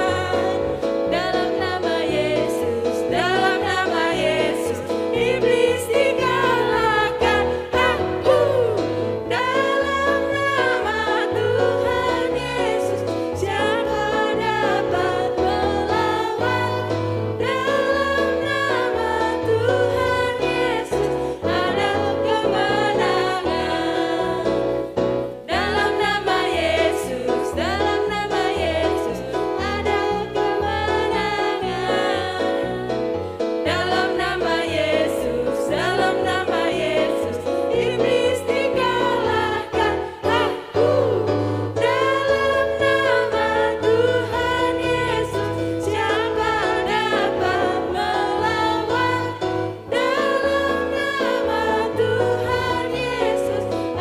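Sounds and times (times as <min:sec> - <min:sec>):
voices singing praise song: 0:00.0 - 0:24.7, 0:25.5 - 0:32.9, 0:33.6 - 0:54.0.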